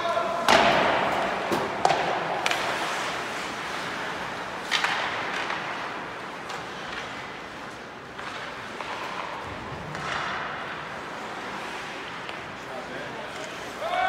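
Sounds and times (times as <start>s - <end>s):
hockey sticks and puck clacking: 0.0s - 14.0s.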